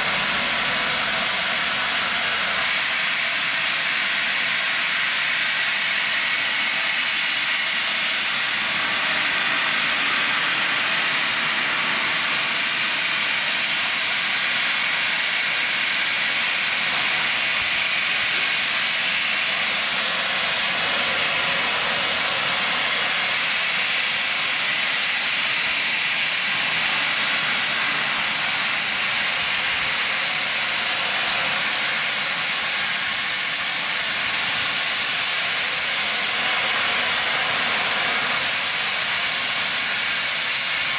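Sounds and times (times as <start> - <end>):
steam hissing: 0.0 - 40.9.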